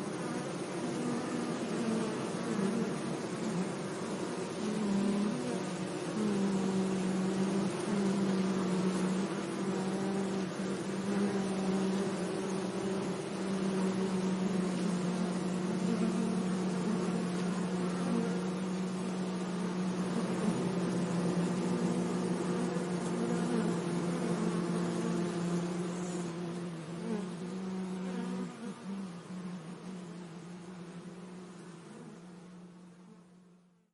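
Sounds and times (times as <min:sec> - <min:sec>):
bees buzzing: 0:00.0 - 0:33.6.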